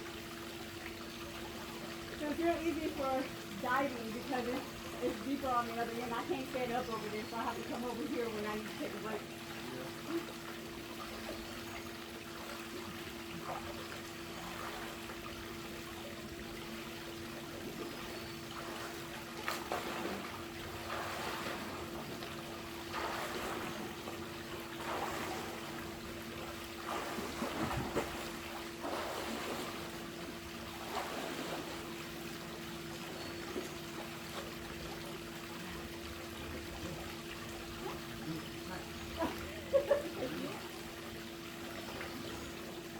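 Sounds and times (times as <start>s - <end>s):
steady low hum: 0.0s - 42.9s
water splashing in swimming pool: 0.0s - 42.9s.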